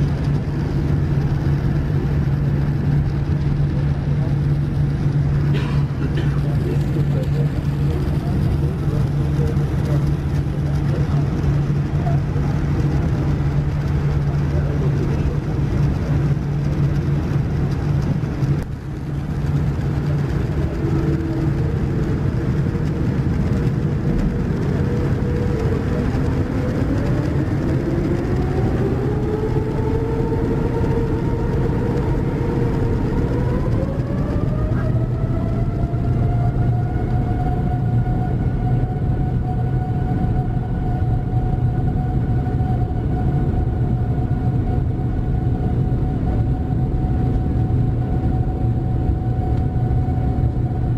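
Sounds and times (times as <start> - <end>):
jet engines spooling up: 0.0 - 50.9.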